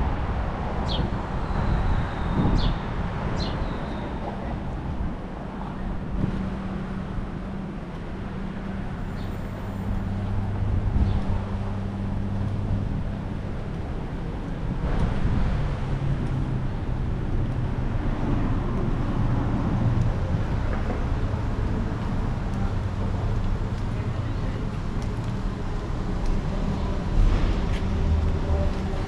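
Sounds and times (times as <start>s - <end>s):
passing cars: 0.0s - 29.0s
vehicle engine humming: 4.2s - 29.0s.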